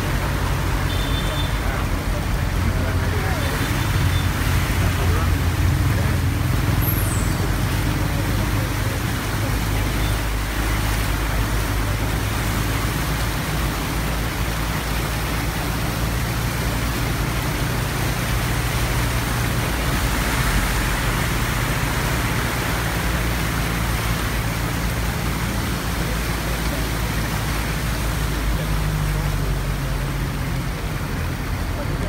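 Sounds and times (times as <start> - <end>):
rushing churned water: 0.0 - 32.0.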